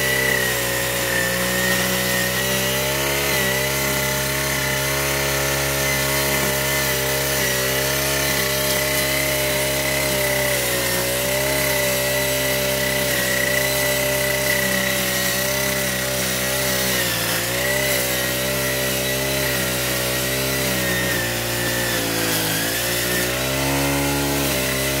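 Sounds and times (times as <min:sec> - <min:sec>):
brush cutter engine running: 0:00.0 - 0:25.0.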